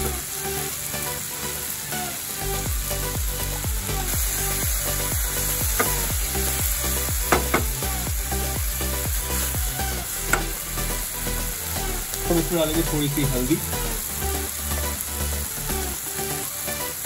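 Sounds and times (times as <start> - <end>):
onions and tomatoes sizzling: 0.0 - 17.0.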